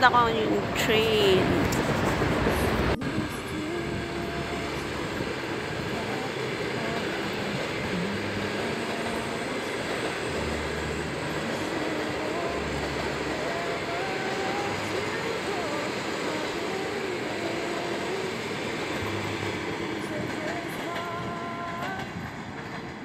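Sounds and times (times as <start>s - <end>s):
faint train whine: 0.0s - 23.0s
train wheels rolling on rails: 0.0s - 23.0s.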